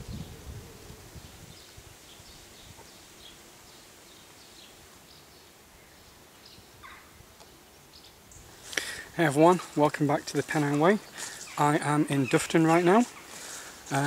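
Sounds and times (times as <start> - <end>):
small birds chirping: 1.1 - 14.0.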